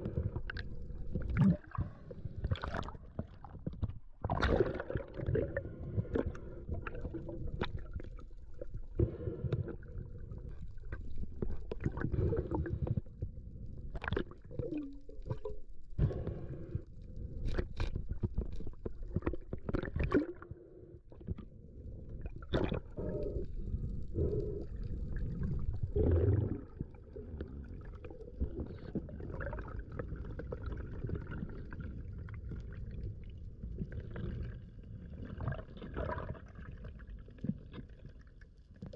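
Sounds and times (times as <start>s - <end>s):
bubbles: 0.0s - 13.1s, 13.9s - 16.2s, 17.6s - 21.4s, 22.1s - 38.9s
muffled underwater rushing water: 0.0s - 38.9s.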